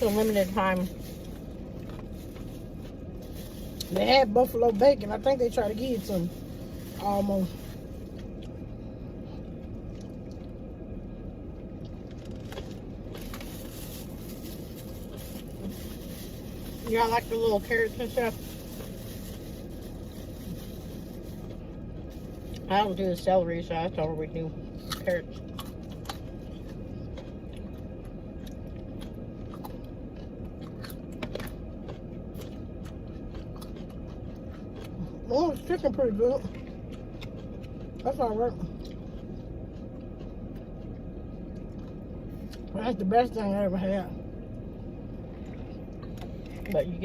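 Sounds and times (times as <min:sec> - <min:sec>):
wet chewing and eating: 0:00.0 - 0:04.6, 0:05.3 - 0:23.3, 0:24.6 - 0:42.8, 0:44.6 - 0:46.8
low rumble: 0:00.0 - 0:47.0.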